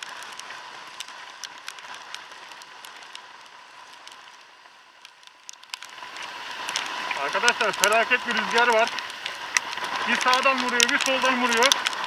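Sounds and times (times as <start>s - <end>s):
rain hiss: 0.0s - 12.0s
raindrops ticking on camera: 0.0s - 12.0s.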